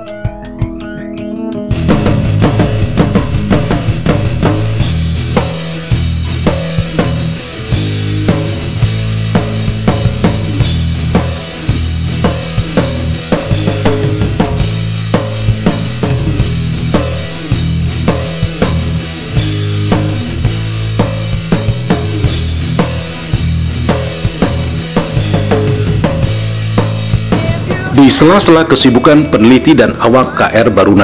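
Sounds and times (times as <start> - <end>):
drum-kit beat: 0.0 - 31.0
sustained bass line: 0.0 - 31.0.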